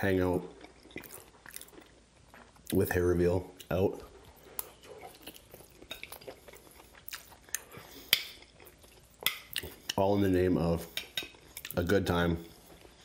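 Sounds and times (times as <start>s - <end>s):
person chewing with mouth clicks: 0.5s - 2.8s, 3.5s - 10.0s, 10.9s - 13.0s.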